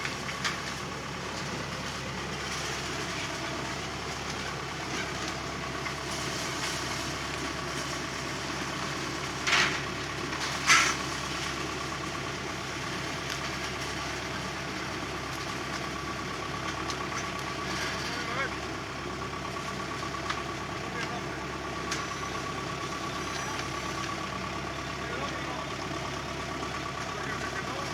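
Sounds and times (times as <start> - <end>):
engine running steadily: 0.0 - 27.9.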